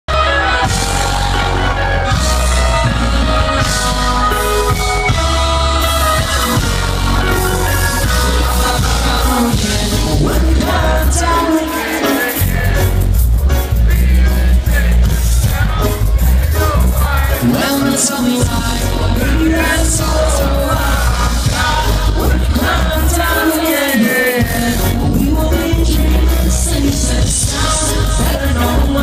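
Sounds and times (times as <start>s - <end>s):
person singing: 0.1s - 13.1s, 13.8s - 29.0s
bass line: 0.1s - 29.0s
electric guitars: 0.1s - 29.0s
horn section: 0.1s - 29.0s.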